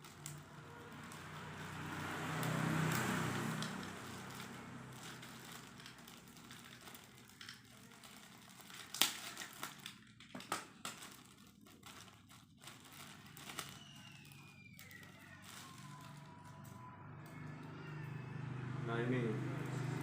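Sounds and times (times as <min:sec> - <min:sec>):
plastic crinkling: 0:00.0 - 0:18.1.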